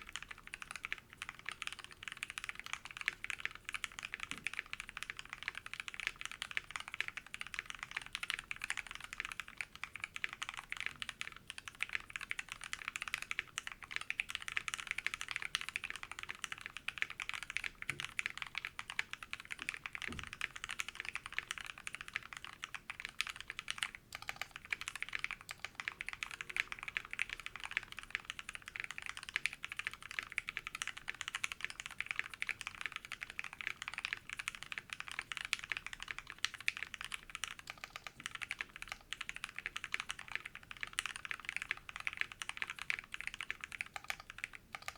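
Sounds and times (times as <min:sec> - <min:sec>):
fast typing on mechanical keyboard: 0:00.0 - 0:44.9.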